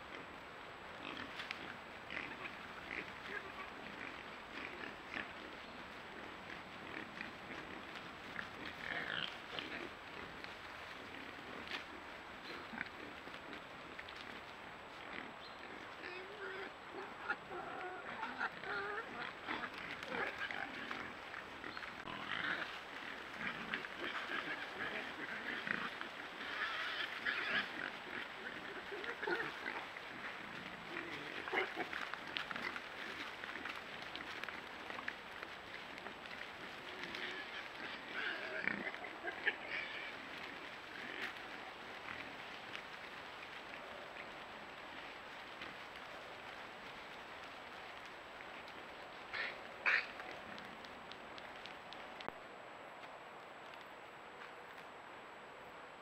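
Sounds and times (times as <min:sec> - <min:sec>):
trampled vegetation crackling: 0:00.0 - 0:55.2
wild boar grunting: 0:01.0 - 0:45.7, 0:49.3 - 0:50.8.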